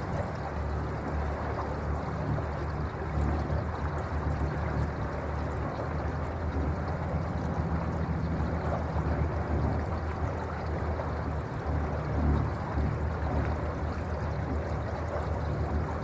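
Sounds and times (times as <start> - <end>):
low rumble: 0.0 - 16.0
water splashing along boat hull: 0.0 - 16.0.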